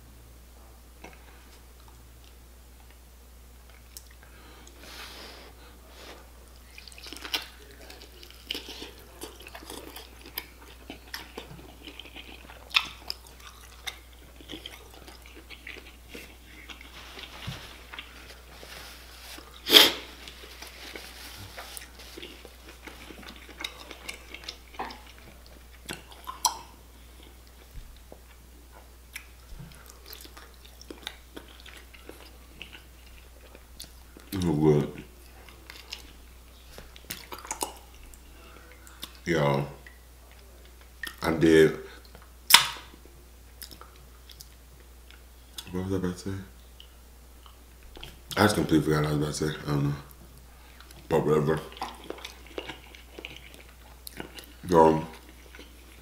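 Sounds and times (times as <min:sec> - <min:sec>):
close chewing and mouth smacks: 0:03.6 - 0:04.8, 0:06.5 - 0:41.2, 0:41.9 - 0:45.8, 0:46.8 - 0:48.5, 0:50.1 - 0:56.0.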